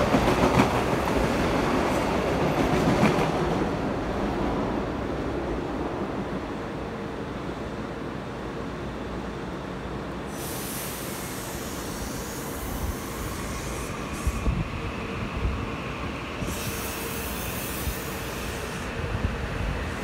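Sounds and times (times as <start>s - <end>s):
electric train running past: 0.0s - 20.0s.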